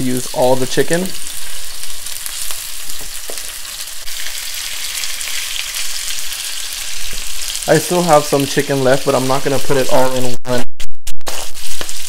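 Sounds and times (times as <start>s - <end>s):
chicken sizzling in frying pan: 0.0s - 10.3s, 11.3s - 12.0s.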